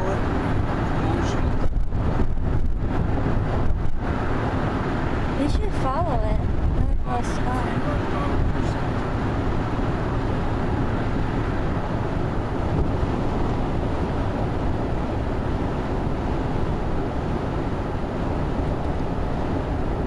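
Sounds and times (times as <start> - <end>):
car road noise: 0.0 - 20.0.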